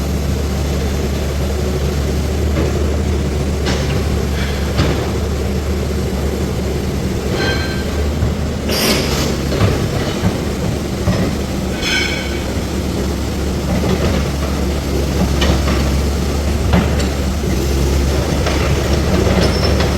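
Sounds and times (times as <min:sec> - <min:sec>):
heavy vehicle engine rumbling: 0:00.0 - 0:19.9
rattles and knocks: 0:02.2 - 0:19.9.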